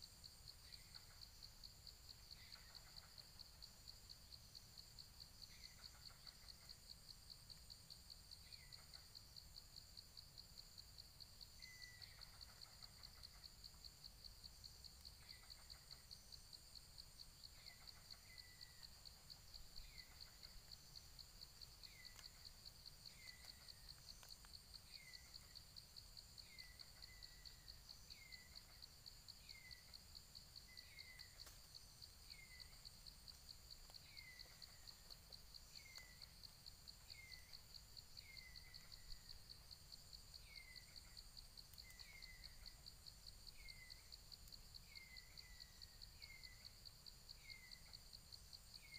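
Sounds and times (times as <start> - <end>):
pulsing insect trill: 0.0 - 48.9
bird chirping: 0.2 - 9.6, 11.0 - 48.9.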